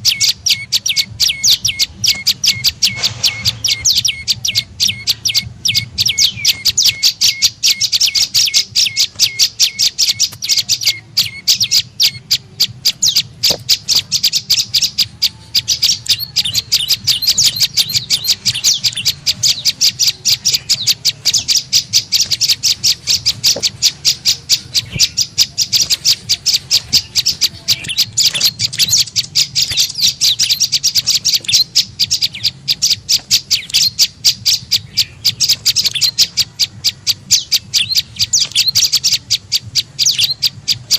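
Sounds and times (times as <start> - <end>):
bird chirping sharply: 0.0 - 40.9.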